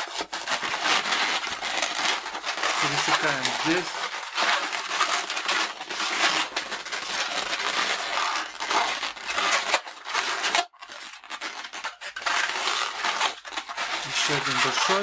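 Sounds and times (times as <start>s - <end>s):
balloon twisted crackly rustle: 0.0s - 15.0s.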